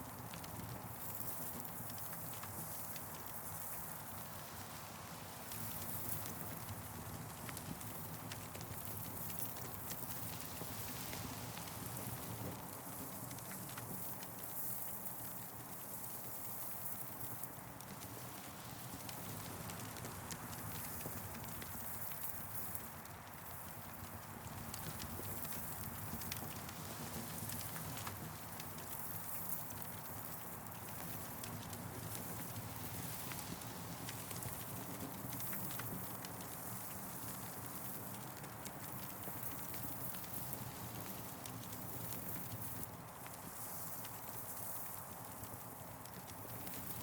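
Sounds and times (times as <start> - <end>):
campfire crackling and popping: 0.2 - 4.3, 5.5 - 14.3, 17.8 - 47.0.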